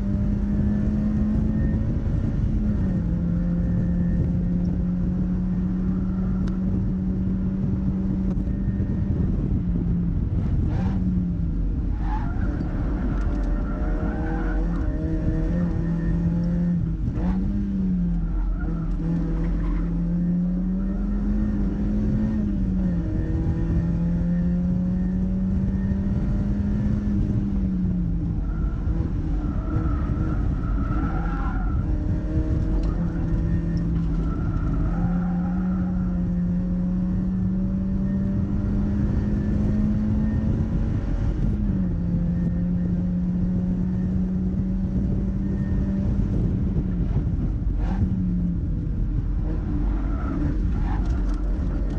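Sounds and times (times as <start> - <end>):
car engine driven hard: 0.0 - 51.9.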